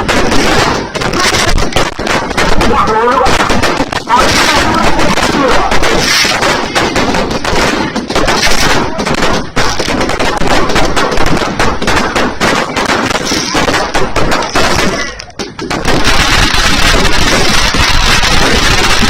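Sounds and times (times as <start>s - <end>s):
firecrackers banging rapidly: 0.0s - 19.0s.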